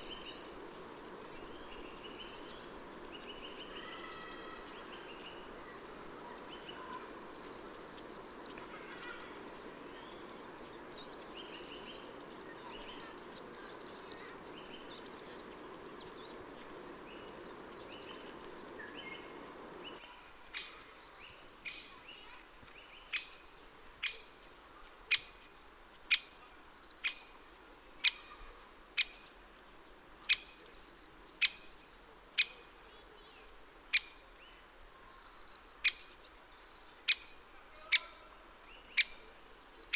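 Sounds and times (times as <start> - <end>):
songbirds chirping: 0.0 - 25.6, 26.3 - 39.9.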